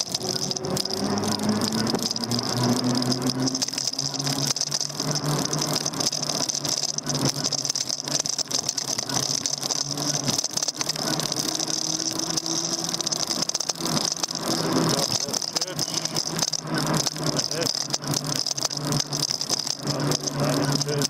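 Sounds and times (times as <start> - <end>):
bike rattling and knocking: 0.0 - 21.0
e-bike motor whine: 0.0 - 21.0.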